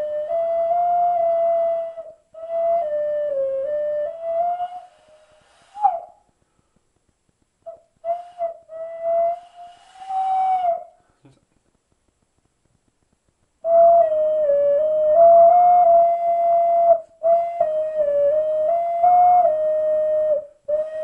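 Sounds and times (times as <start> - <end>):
ocarina playing slow melody: 0.0 - 6.2, 7.7 - 11.1, 13.6 - 21.0.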